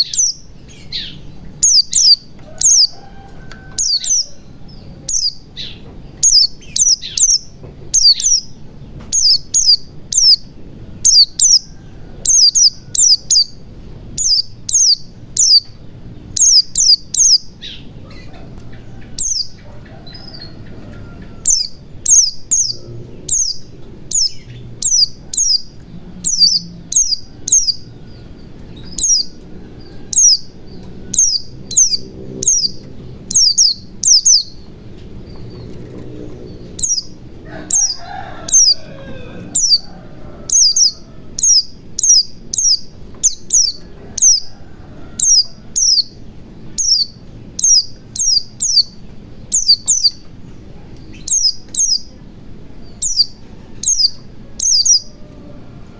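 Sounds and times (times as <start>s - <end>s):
bird giving high chirps: 0.0s - 13.6s, 14.2s - 18.5s, 19.1s - 20.6s, 21.4s - 34.8s, 36.6s - 39.9s, 40.5s - 44.5s, 45.2s - 50.2s, 51.0s - 52.2s, 52.9s - 55.1s.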